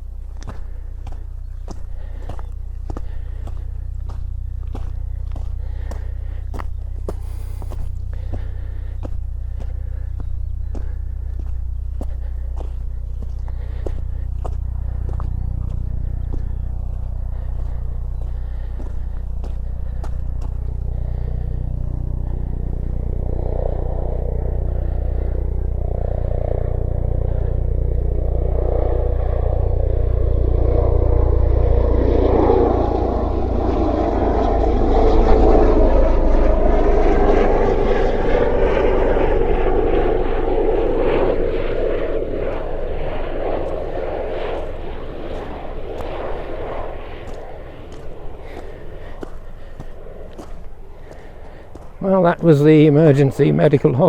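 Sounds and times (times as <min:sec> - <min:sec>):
helicopter flying past: 0:00.0 - 0:54.0.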